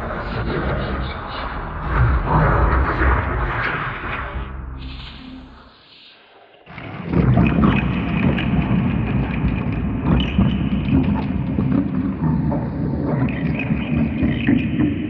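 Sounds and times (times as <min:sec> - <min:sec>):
distorted crackling rumble: 0:00.0 - 0:05.7, 0:06.7 - 0:15.0.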